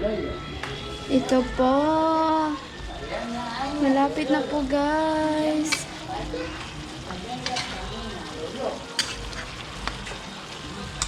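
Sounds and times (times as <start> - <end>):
meat sizzling in a pan: 0.8 - 11.0.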